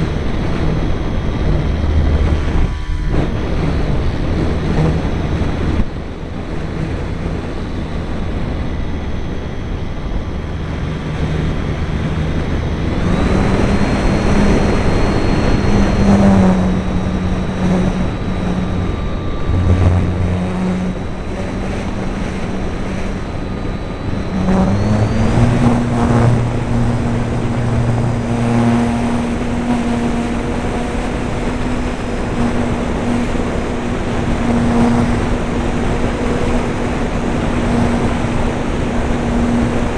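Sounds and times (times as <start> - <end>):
model airplane motor droning: 0.0 - 39.9.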